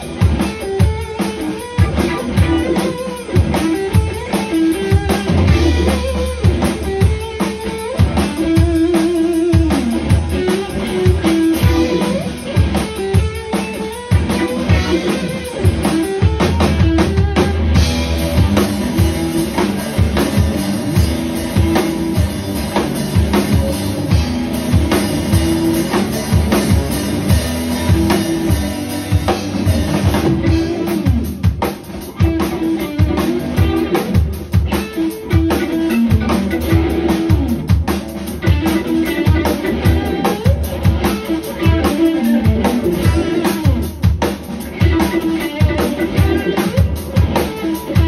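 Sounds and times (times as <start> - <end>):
rock band playing: 0.0 - 48.0.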